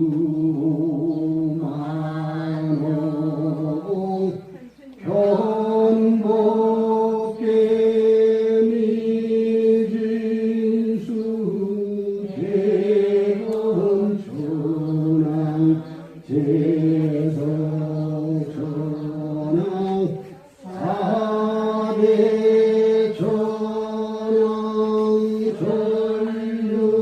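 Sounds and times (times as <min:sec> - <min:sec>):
voices chanting long held notes: 0:00.0 - 0:27.0.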